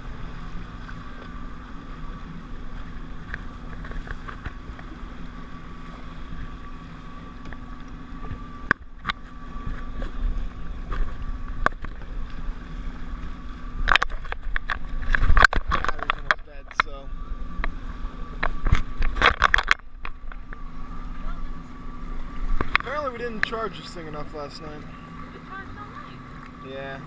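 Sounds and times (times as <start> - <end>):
jet ski engine idling: 0.0 - 27.0.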